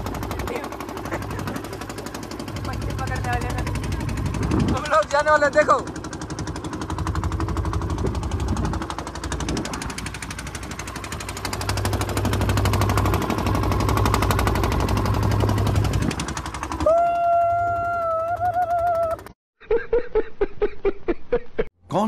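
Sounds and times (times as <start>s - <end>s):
boat engine knocking: 0.0s - 19.4s.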